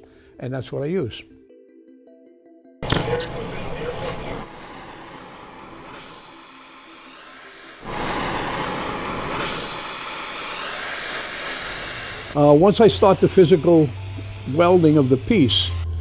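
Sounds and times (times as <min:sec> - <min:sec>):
gas torch hissing: 0:02.8 - 0:16.0.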